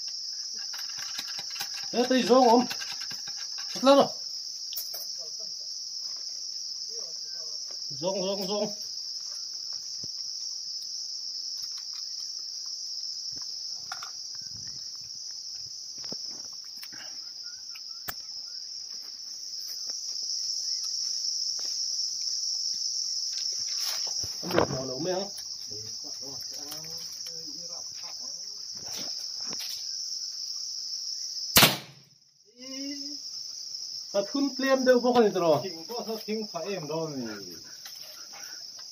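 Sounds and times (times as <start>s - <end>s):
forest insects droning: 0.0s - 38.9s.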